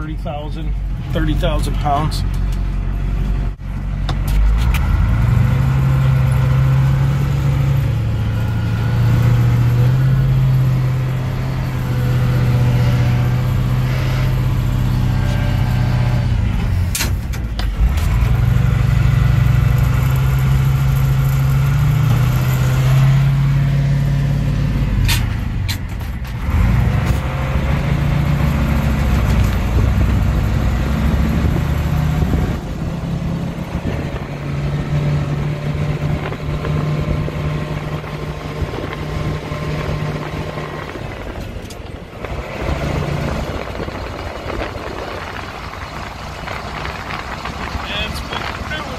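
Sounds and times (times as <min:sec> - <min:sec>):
truck engine under load: 0:00.0 - 0:48.9.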